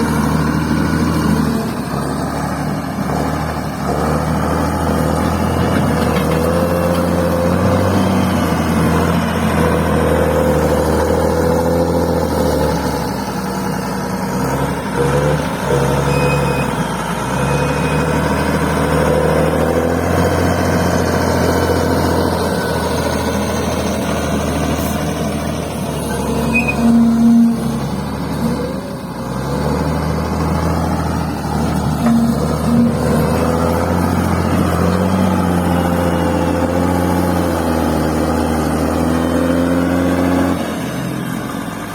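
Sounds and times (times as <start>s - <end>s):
bulldozer diesel engine working: 0.0s - 41.9s.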